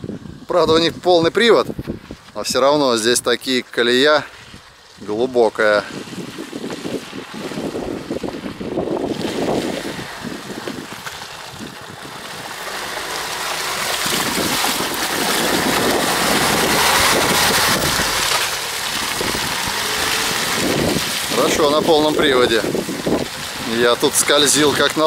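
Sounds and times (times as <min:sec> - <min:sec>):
wind buffeting microphone: 0:00.0 - 0:02.4, 0:04.4 - 0:12.7, 0:13.8 - 0:25.0
suv engine in mud: 0:00.0 - 0:25.0.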